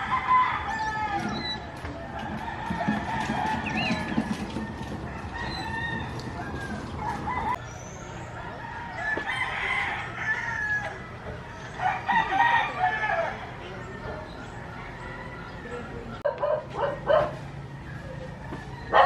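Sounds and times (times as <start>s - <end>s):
chickens clucking: 0.0s - 19.0s
roosters crowing: 0.0s - 19.0s.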